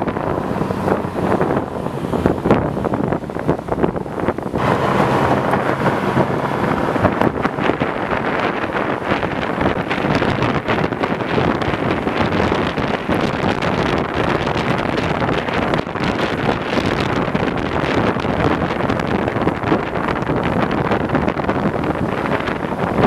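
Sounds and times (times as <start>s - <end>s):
rail car rumble and rattle: 0.0s - 23.0s
wind buffeting microphone: 0.0s - 23.0s.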